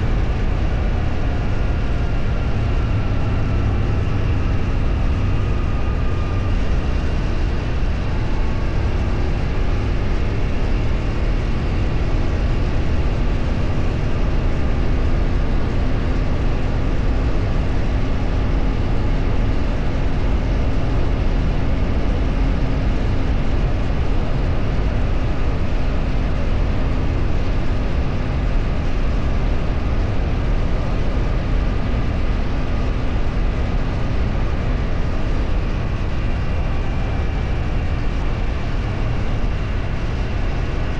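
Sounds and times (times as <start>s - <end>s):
vehicle engine rumble: 0.0s - 40.9s
wind and road noise: 0.0s - 40.9s.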